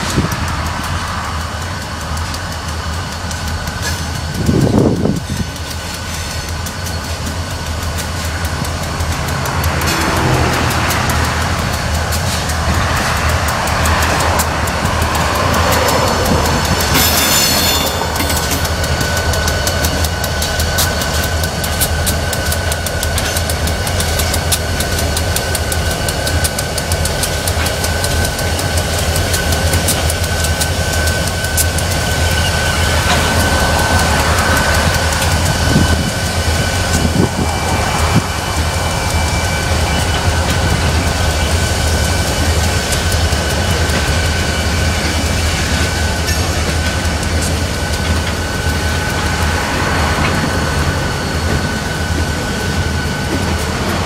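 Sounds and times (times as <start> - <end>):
diesel locomotive rumble and whine: 0.0 - 54.0
train wheels clicking over rails: 0.0 - 54.0.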